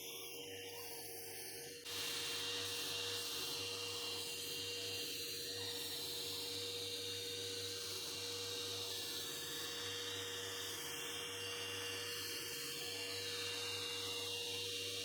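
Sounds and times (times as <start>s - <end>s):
small electric motor humming: 1.9s - 15.0s.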